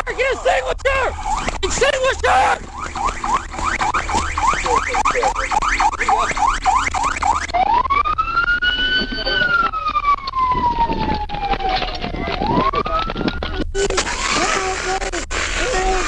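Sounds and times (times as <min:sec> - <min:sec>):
police siren: 0:00.0 - 0:16.0.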